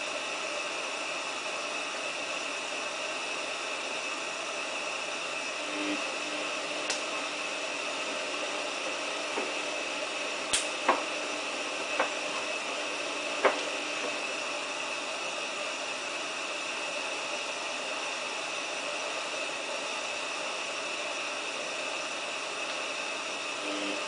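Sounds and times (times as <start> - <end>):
washing machine hissing: 0.0 - 24.0.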